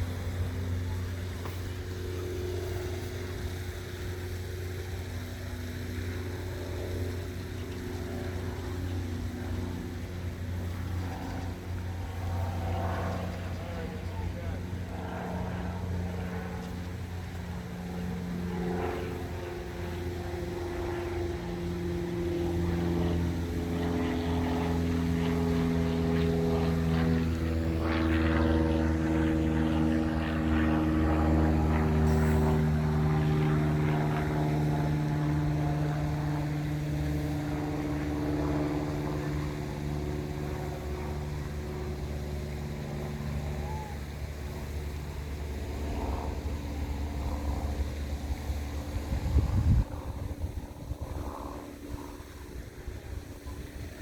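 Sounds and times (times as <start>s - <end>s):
model boat motors droning: 0.0s - 54.0s.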